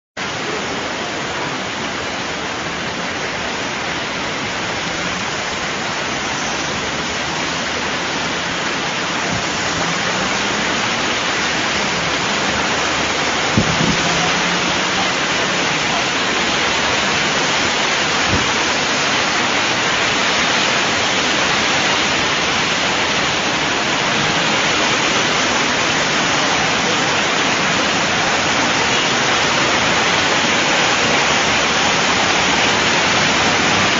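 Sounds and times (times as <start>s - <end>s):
heavy rain on water: 0.2s - 33.9s.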